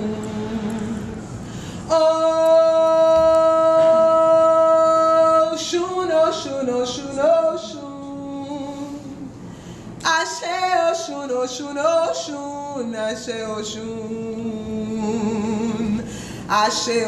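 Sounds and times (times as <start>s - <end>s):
woman singing unaccompanied chant: 0.0s - 1.3s, 1.9s - 9.2s, 10.0s - 17.0s.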